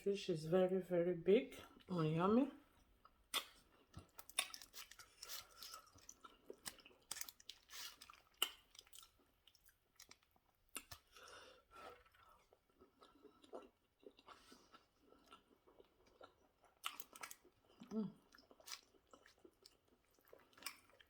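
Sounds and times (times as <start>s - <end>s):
wet chewing: 2.8s - 21.0s.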